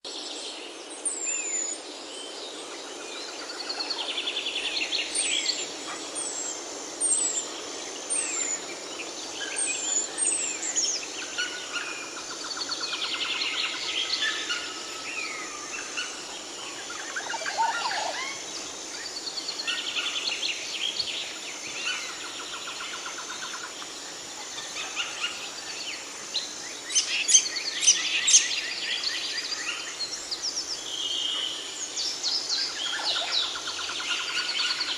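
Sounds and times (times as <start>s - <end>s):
steady hiss: 0.1s - 34.9s
birds singing and calling: 0.3s - 34.9s.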